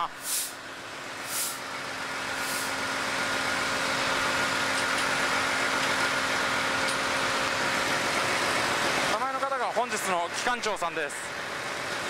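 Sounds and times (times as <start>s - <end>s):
engine room machinery hum: 0.0s - 12.0s.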